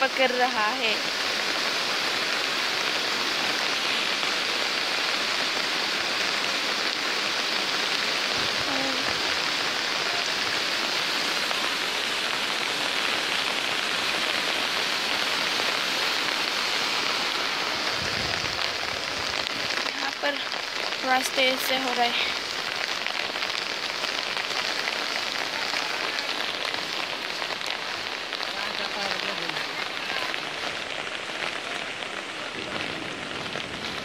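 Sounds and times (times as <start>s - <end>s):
floodwater rushing: 0.0s - 34.0s
heavy rain: 0.0s - 34.0s.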